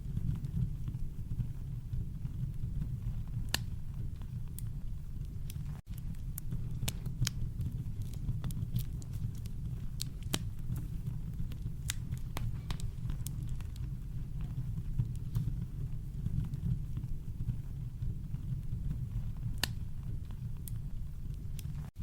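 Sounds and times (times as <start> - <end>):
campfire crackling: 0.0 - 22.0
sharp pops from fire: 0.1 - 22.0.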